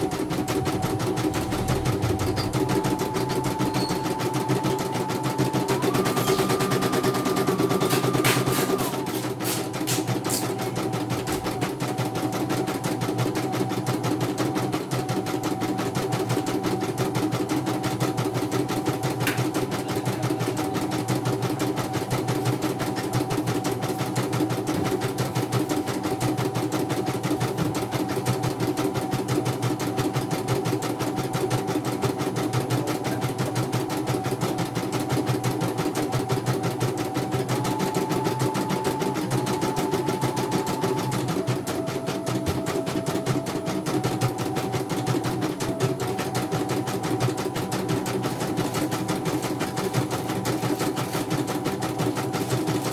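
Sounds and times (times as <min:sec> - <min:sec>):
embroidery machine stitching: 0:00.0 - 0:52.9.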